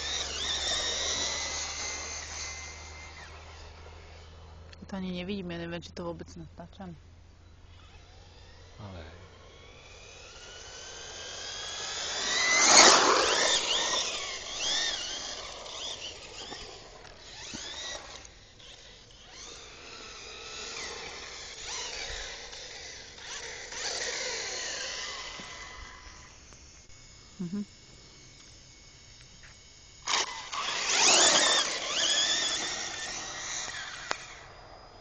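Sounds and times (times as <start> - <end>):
toy car motor whining: 0.0 - 4.9, 7.6 - 35.0.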